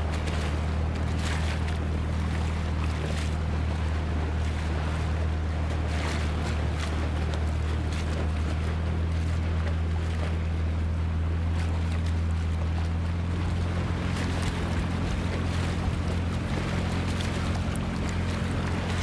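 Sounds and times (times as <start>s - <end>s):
outboard motor running: 0.0s - 19.0s
water wash: 0.0s - 19.0s.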